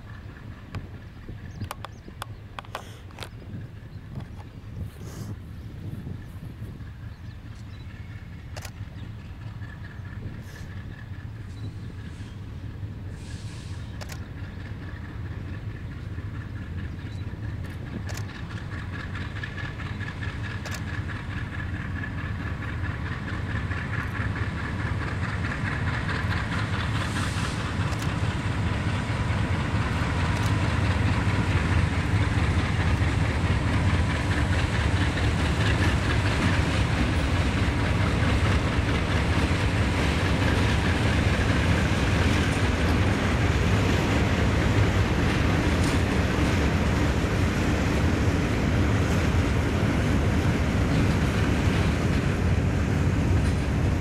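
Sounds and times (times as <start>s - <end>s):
diesel locomotives running: 0.0s - 54.0s
train wheels clacking over rail joints: 7.4s - 54.0s.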